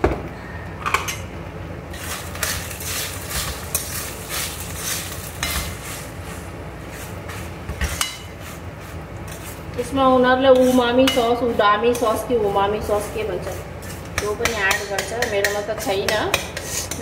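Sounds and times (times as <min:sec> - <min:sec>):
spoon scraping a wok: 0:01.9 - 0:17.0.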